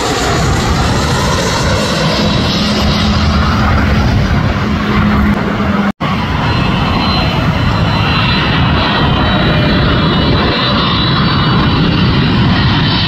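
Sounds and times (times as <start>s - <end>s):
faint high engine whine: 0.0s - 13.0s
jet engines passing overhead: 0.0s - 13.0s.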